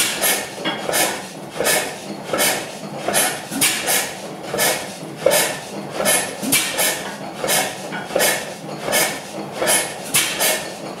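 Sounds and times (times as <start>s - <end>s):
stationary gas engine clattering: 0.0s - 11.0s.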